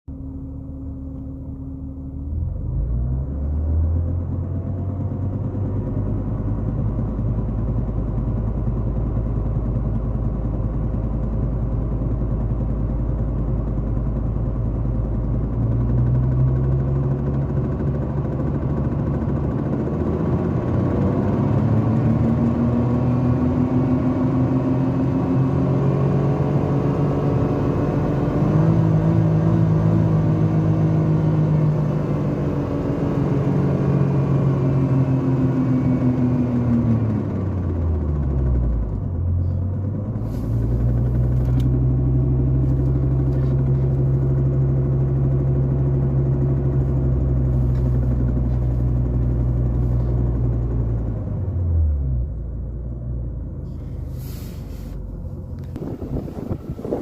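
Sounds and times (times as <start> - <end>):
car engine running: 0.1 - 57.0.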